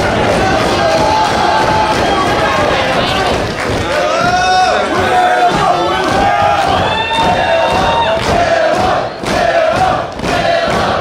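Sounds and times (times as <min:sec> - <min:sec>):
crowd chanting and cheering: 0:00.0 - 0:11.0.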